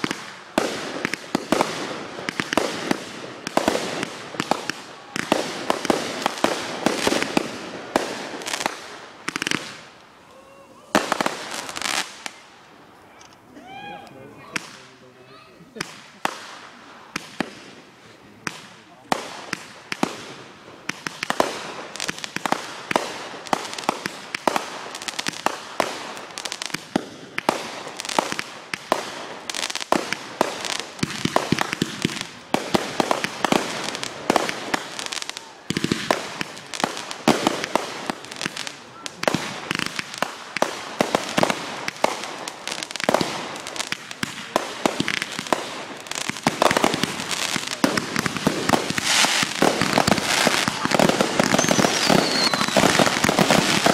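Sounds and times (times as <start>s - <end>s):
ground firework flame burst: 0.0s - 10.2s, 15.7s - 53.9s
fireworks popping and crackling: 0.0s - 13.4s, 14.4s - 15.1s, 15.7s - 53.9s.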